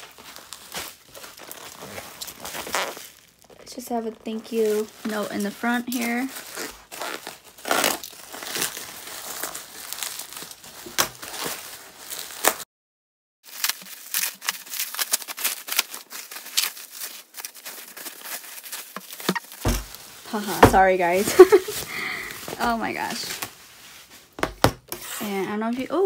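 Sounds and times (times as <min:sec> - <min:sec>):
packaging rustling and crinkling: 0:00.0 - 0:12.6, 0:13.5 - 0:26.0.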